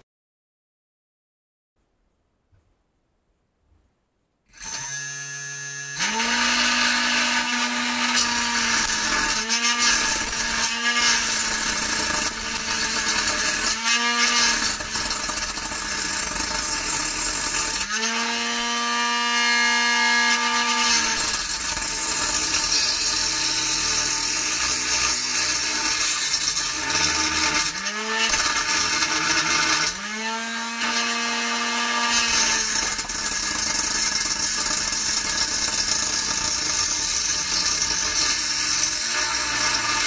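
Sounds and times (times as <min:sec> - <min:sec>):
saw blade motor whining and grinding: 0:04.5 - 0:15.7, 0:16.5 - 0:40.0.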